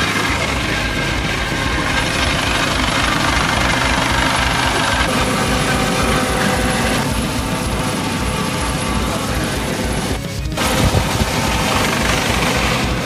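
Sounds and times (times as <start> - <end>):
helicopter hovering overhead: 0.0 - 13.0.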